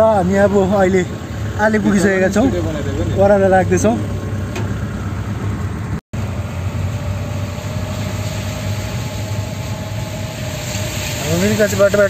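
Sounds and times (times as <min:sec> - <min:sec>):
car engine and road noise: 0:00.0 - 0:12.0
low hum: 0:01.0 - 0:11.9.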